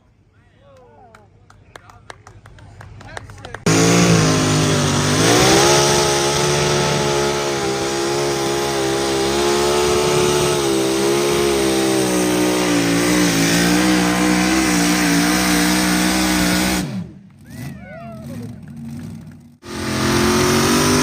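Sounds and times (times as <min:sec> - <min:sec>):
tractor engine at full throttle: 0:03.5 - 0:21.0.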